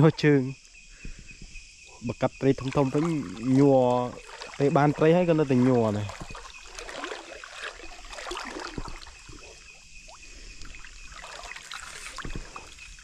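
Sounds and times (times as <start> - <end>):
water splashing and trickling: 1.8 - 13.0.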